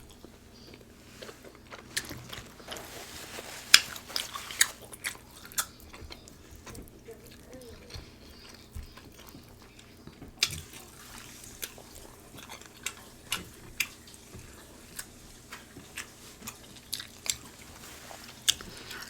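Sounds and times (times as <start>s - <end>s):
wet eating smacks and clicks: 0.0s - 3.0s, 3.6s - 19.0s.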